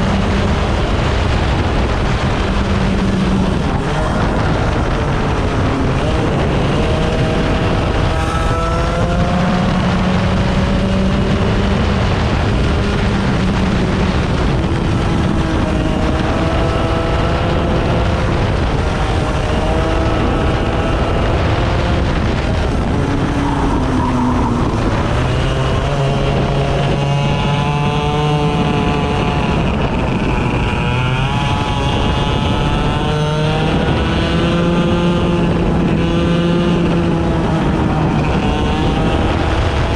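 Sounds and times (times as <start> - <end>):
racing engine revving: 0.0 - 39.9
wind and track noise: 0.0 - 39.9.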